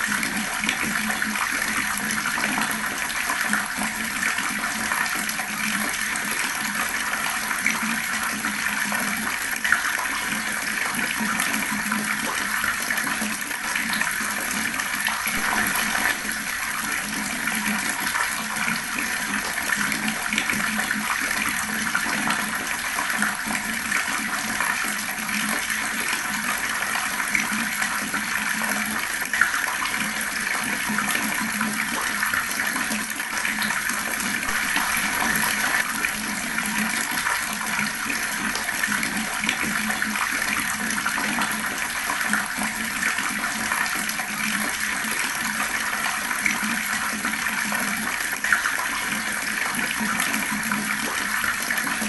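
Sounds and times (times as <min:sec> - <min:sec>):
fast-flowing water: 0:00.0 - 0:52.0.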